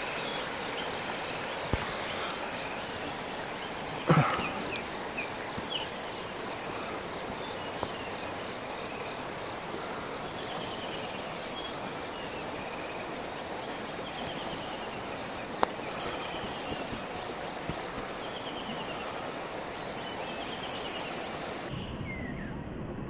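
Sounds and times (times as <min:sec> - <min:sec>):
river rushing over rocks: 0:00.0 - 0:21.7.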